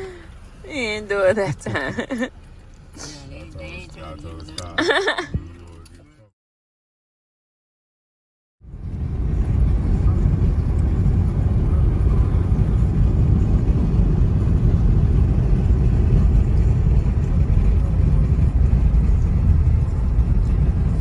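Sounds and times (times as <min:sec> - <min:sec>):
car road and engine rumble: 0:00.0 - 0:06.3, 0:08.6 - 0:21.0.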